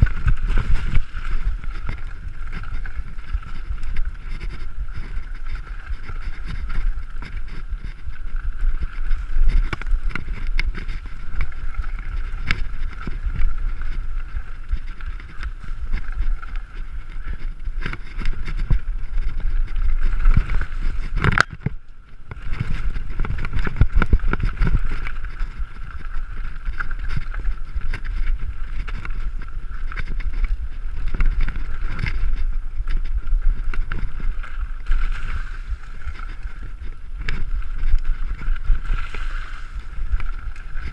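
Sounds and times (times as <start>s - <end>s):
bike tyres rumbling on trail: 0.0s - 40.9s
wind buffeting microphone: 0.0s - 40.9s.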